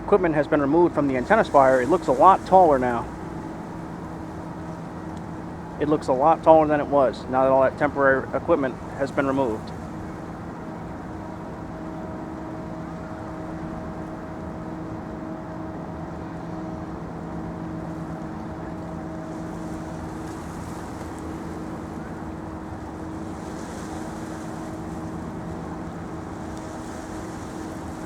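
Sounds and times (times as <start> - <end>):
steady engine drone: 0.0 - 28.0.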